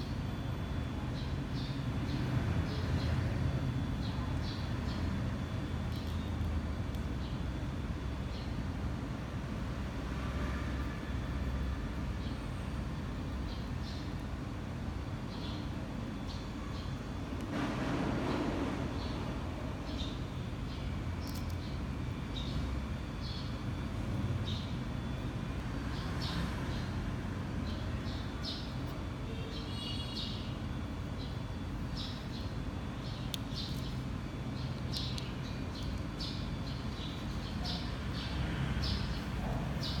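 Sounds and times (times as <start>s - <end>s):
small birds chirping: 1.2s - 8.6s, 12.2s - 17.2s, 19.8s - 27.0s, 27.6s - 40.0s.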